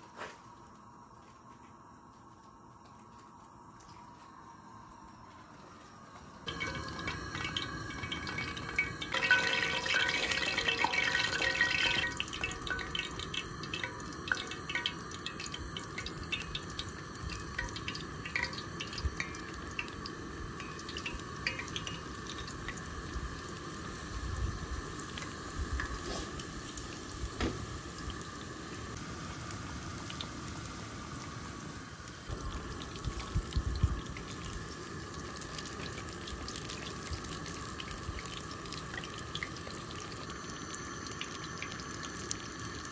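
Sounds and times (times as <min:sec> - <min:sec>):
crackles and pops of frying: 0:00.0 - 0:05.4, 0:06.1 - 0:42.9
egg rolls frying in hot oil: 0:06.4 - 0:42.9.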